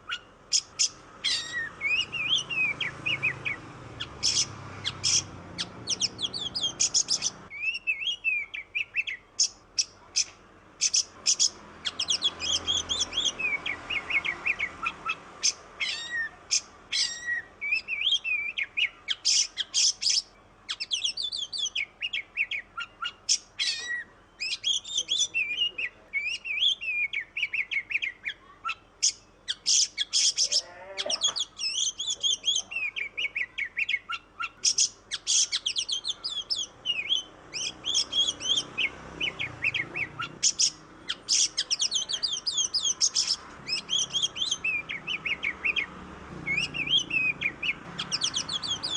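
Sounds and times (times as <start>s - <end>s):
songbird whistling and chirping: 0.0s - 48.9s.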